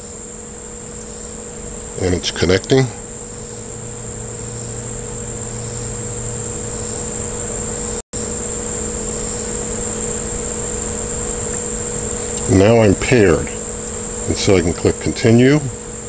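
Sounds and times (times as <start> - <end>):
faint low hum: 0.0 - 16.0
insect chorus: 0.0 - 16.0.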